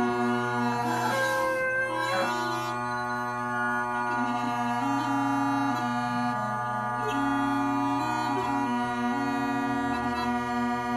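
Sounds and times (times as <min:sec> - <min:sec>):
bagpipe chanter melody: 0:00.0 - 0:10.9
bagpipe drone: 0:00.0 - 0:10.9.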